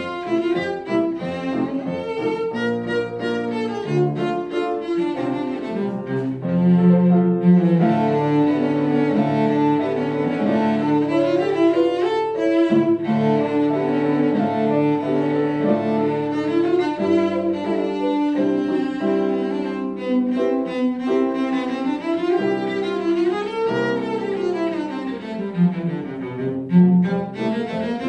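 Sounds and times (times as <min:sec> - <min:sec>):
cello bowed: 0:00.0 - 0:28.0
piano: 0:00.0 - 0:28.0.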